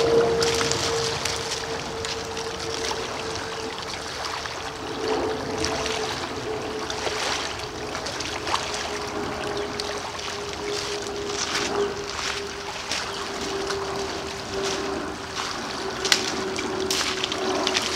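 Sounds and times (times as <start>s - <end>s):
distant motor drone: 0.0s - 17.9s
waves lapping on pebbles: 0.0s - 17.9s.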